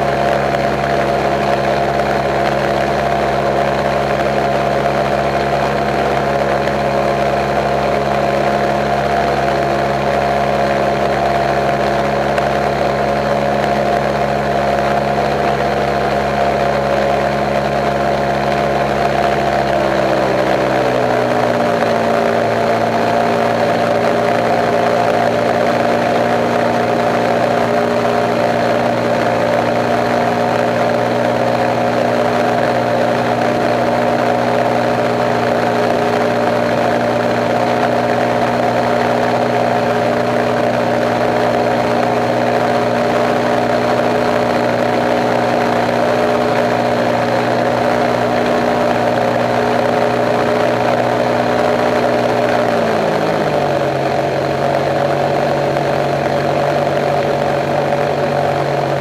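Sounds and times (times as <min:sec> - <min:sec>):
aircraft engine and propeller droning: 0:00.0 - 0:59.0.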